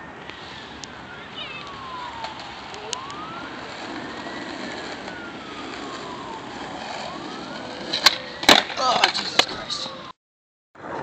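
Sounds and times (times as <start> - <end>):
skateboard wheels rolling on asphalt: 0.0 - 10.1
faint siren wailing: 0.0 - 10.2.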